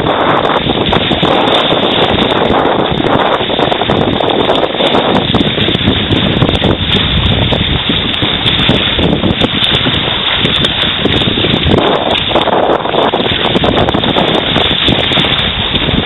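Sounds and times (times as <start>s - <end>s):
water rushing past hull: 0.0s - 16.0s
wind buffeting microphone: 0.0s - 16.0s.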